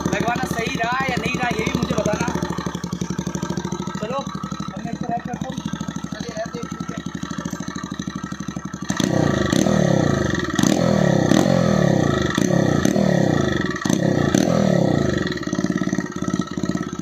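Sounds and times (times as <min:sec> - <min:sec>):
exhaust cracks: 0:00.0 - 0:17.0
motorcycle engine revving: 0:00.0 - 0:17.0.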